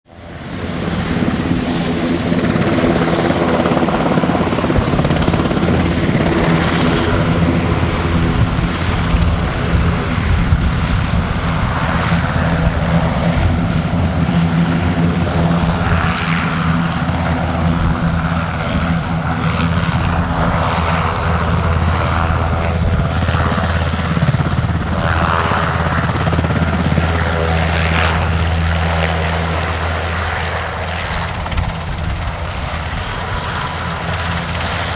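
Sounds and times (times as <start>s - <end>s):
helicopter rotor drone: 0.1s - 34.9s.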